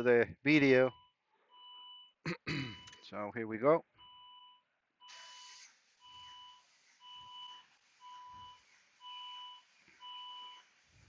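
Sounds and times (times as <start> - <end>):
car warning chime beeping: 0.8 - 3.1, 4.0 - 10.7.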